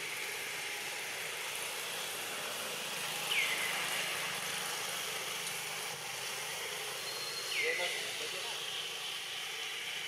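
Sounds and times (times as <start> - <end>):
forest background hiss: 0.0 - 10.0.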